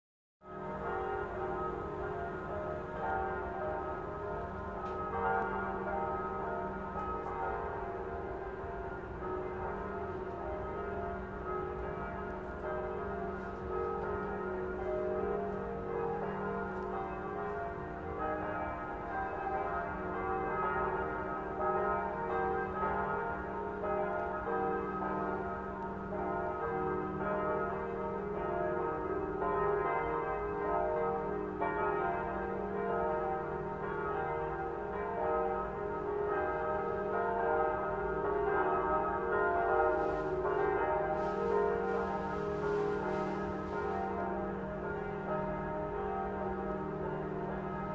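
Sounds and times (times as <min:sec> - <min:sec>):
church bells ringing: 0:00.4 - 0:47.9.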